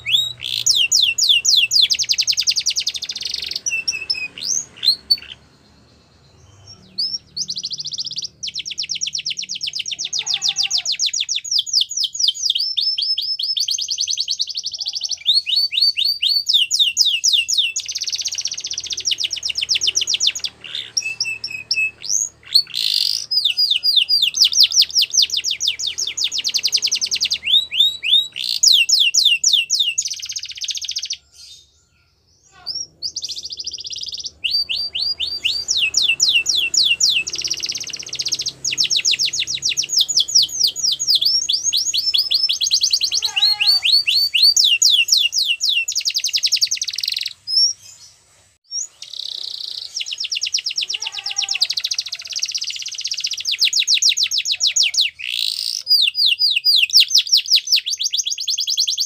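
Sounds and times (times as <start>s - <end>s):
canary singing fast trills: 0.0s - 59.0s.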